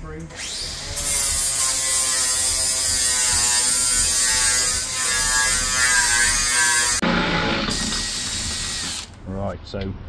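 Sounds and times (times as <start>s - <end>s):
small electric motor whining: 0.4s - 9.1s.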